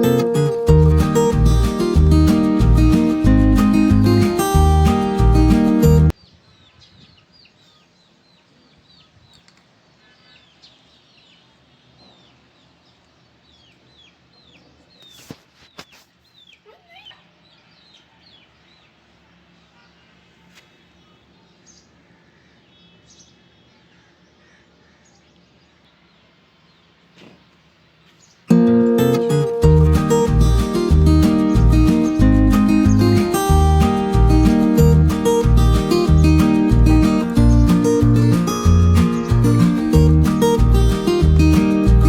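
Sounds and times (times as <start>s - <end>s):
faint birds chirping: 0.0s - 42.0s.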